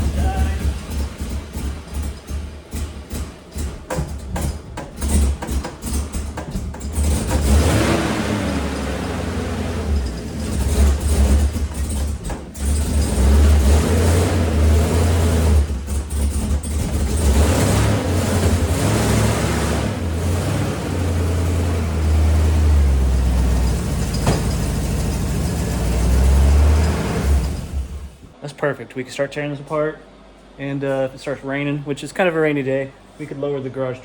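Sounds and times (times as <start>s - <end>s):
engine cranking on starter: 0.0s - 28.3s
engine running and revving: 0.0s - 28.3s.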